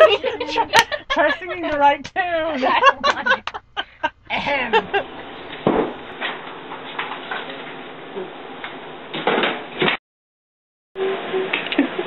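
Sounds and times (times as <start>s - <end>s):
room noise hiss: 0.0s - 9.9s.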